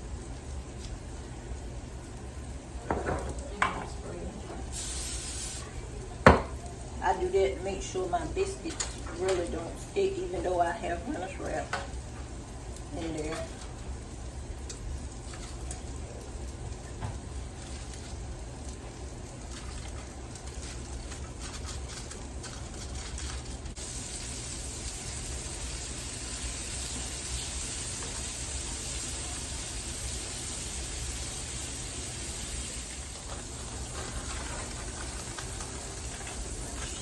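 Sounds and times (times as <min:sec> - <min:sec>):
sausage sizzling in a frying pan: 0:00.0 - 0:37.0.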